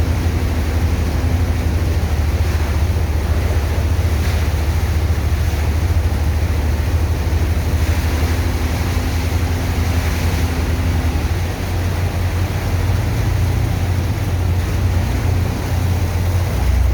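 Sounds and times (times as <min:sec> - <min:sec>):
dredger engine and pump rumble: 0:00.0 - 0:16.9
rushing water: 0:00.0 - 0:16.9.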